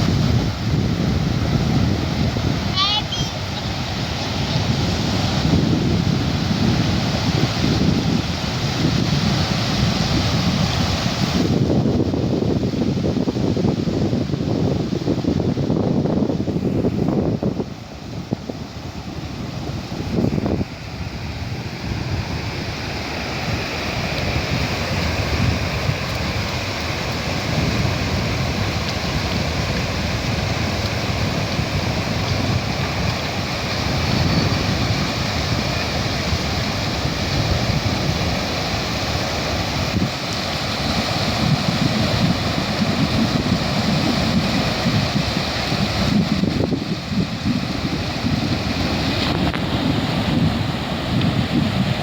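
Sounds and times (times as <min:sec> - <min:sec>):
sea waves washing ashore: 0:00.0 - 0:52.0
wind buffeting microphone: 0:00.0 - 0:52.0.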